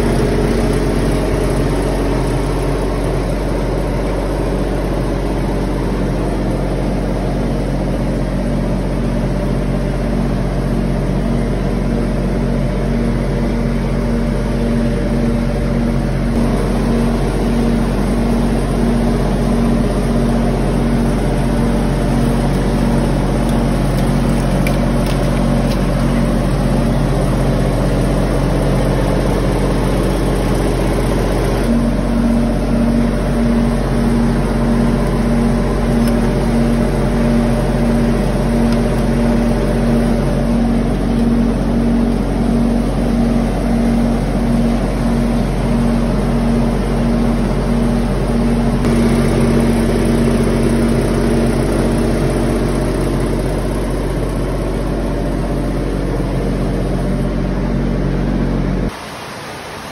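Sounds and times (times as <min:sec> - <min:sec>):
steady mechanical drone: 0:00.0 - 0:59.9.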